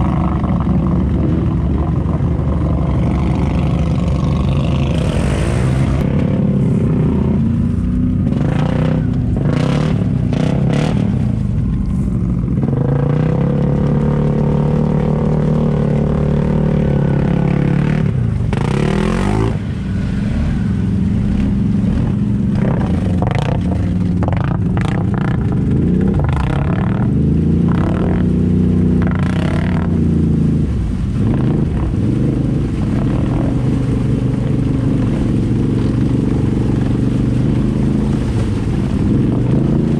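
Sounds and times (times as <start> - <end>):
atv engines revving: 0.0 - 39.9
muddy water splashing: 0.0 - 39.9.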